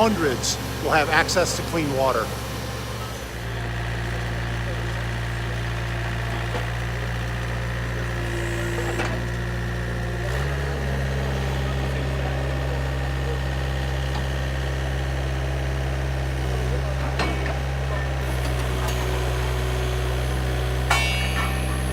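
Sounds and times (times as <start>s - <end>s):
drilling rig engine running: 0.0s - 21.9s.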